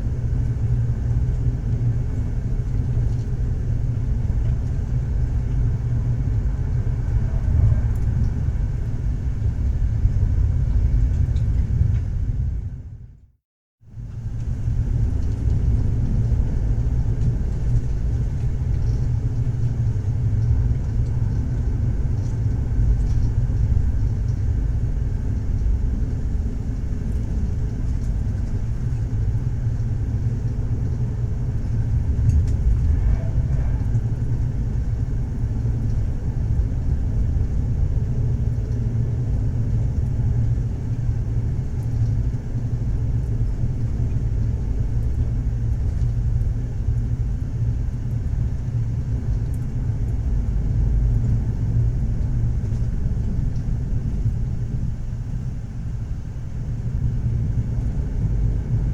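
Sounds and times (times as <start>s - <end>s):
passenger train rumbling on rails: 0.0s - 13.0s, 14.0s - 58.9s.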